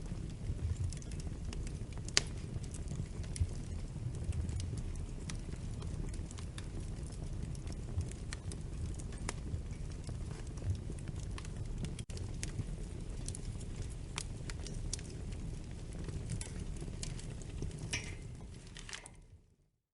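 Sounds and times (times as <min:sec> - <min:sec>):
fire crackling in fireplace: 0:00.0 - 0:19.7.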